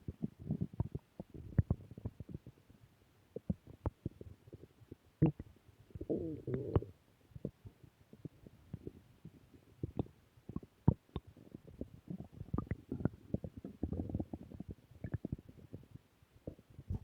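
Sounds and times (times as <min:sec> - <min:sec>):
stomach growling: 0:00.0 - 0:17.0.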